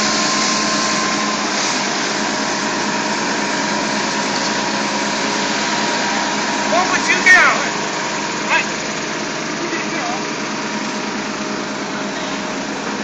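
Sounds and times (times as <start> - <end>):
fire truck pump running: 0.0 - 13.0.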